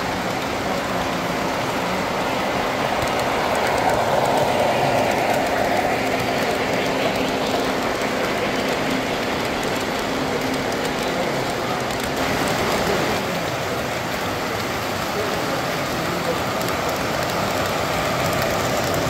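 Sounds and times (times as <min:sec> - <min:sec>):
model train rolling rattle: 0:00.0 - 0:19.0.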